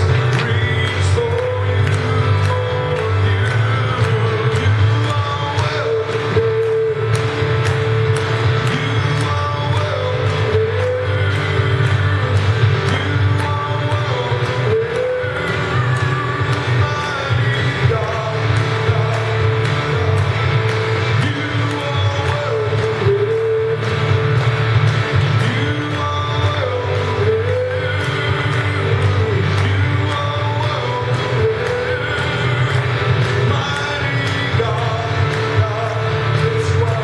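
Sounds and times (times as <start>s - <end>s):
band playing worship music: 0.0s - 37.0s
person singing: 0.0s - 37.0s
steady drumbeat: 0.0s - 37.0s.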